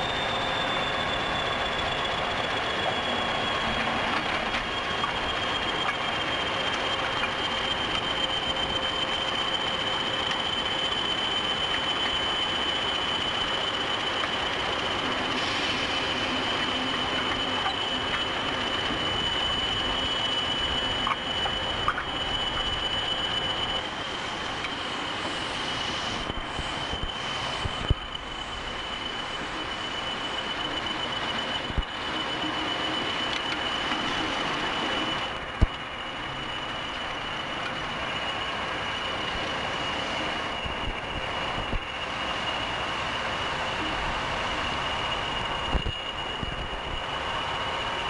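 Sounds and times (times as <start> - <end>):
high wheel squeal: 0.0 - 48.0
moving train rumble: 0.0 - 48.0.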